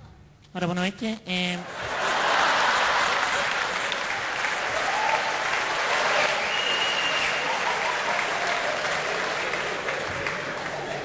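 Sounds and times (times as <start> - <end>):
audience applauding: 1.7 - 11.0.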